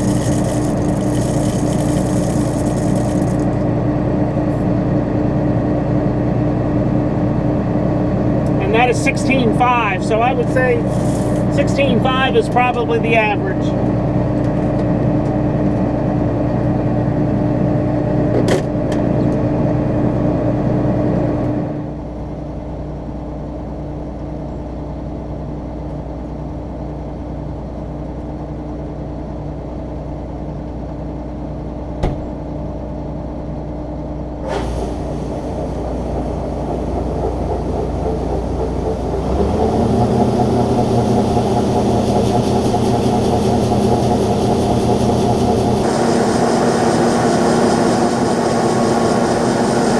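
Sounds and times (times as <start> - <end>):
combine engine and machinery running: 0.0 - 49.9.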